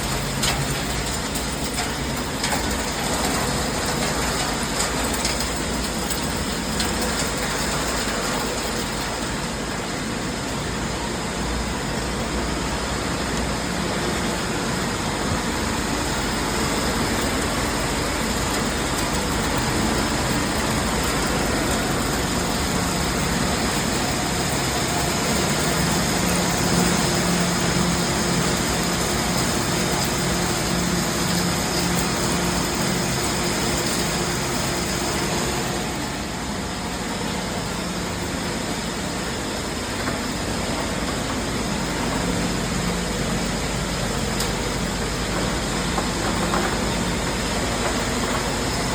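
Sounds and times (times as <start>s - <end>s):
industrial machinery din: 0.0s - 48.9s.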